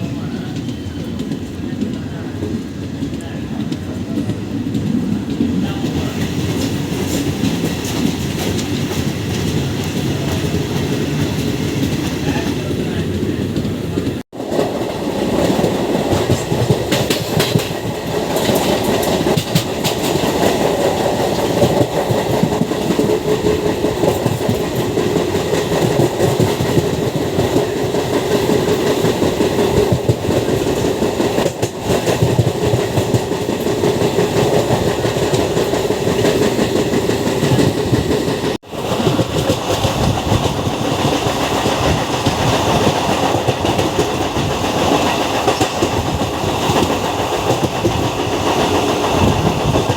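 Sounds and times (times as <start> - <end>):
train wheels clacking on rails: 0.0 - 49.9.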